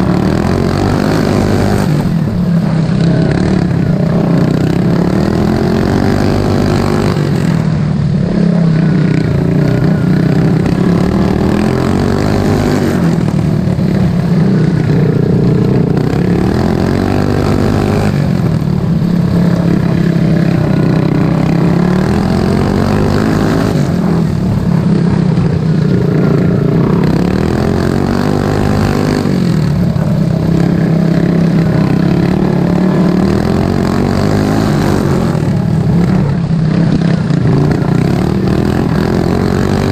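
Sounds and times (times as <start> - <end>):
racing lawn mower engine: 0.0 - 39.9.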